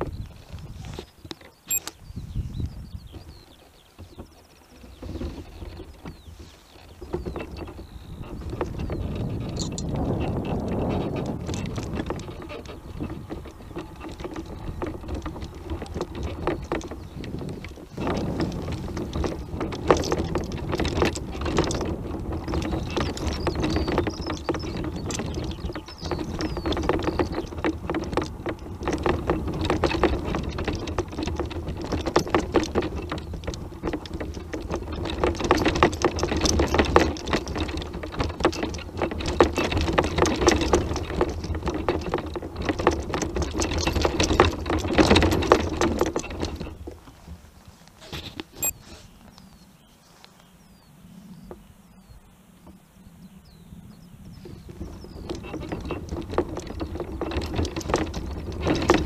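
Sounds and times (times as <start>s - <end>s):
scooter frame rattling and knocking: 3.0s - 48.8s, 54.3s - 59.0s.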